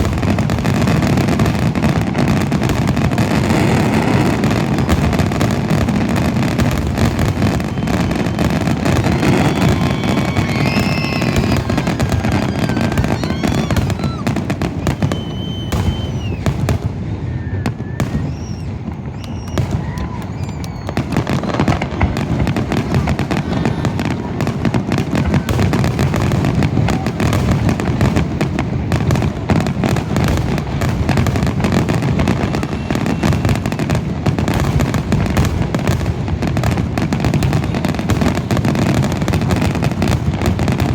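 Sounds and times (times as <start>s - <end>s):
fireworks high whistles: 0.0s - 40.9s.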